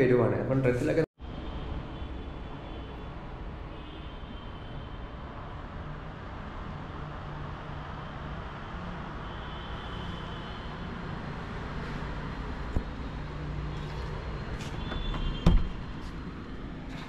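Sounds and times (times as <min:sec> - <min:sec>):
road traffic rumble: 0:01.2 - 0:17.0.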